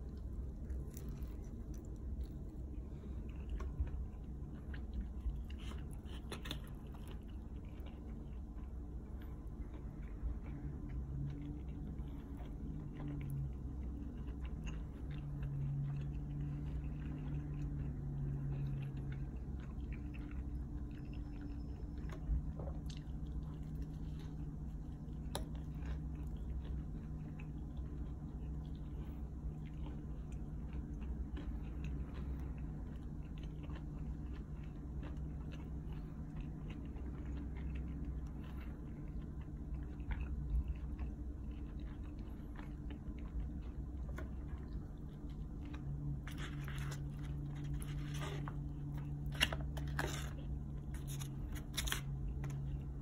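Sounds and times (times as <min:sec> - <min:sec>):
person chewing: 0:00.0 - 0:53.0
steady low hum: 0:00.0 - 0:53.0.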